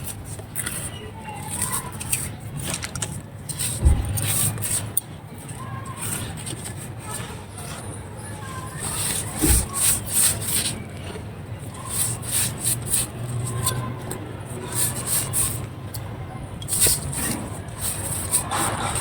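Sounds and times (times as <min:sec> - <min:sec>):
dry clay crumbling: 0:00.0 - 0:19.0.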